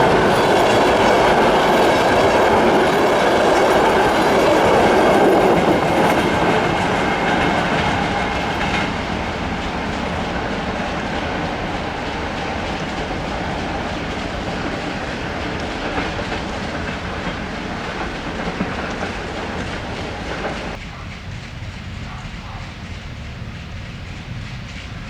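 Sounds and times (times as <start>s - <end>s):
low train rumble: 0.0s - 25.0s
train wheels clicking over rail joints: 0.0s - 25.0s.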